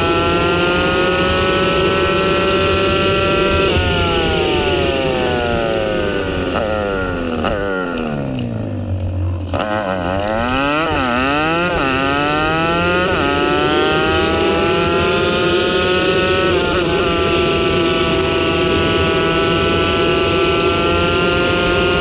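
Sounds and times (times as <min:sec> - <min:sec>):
small motorbike engine revving: 0:00.0 - 0:22.0.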